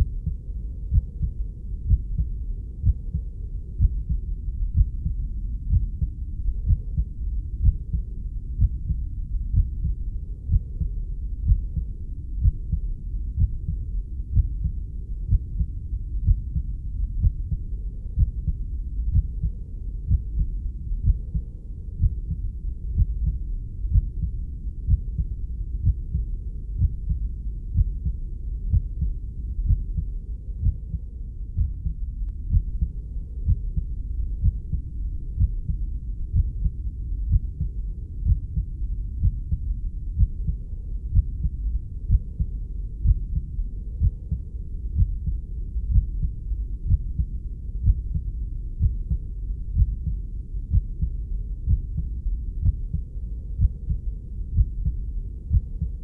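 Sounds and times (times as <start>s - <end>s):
heartbeat thumps: 0.0s - 56.0s
low rumble: 0.0s - 56.0s.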